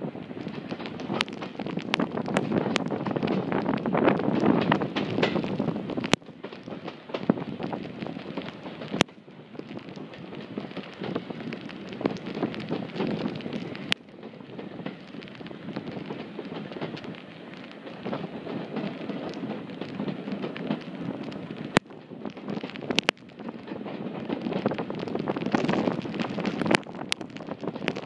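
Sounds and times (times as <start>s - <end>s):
train running on track: 0.0s - 28.0s
wind buffeting a microphone: 0.0s - 28.0s.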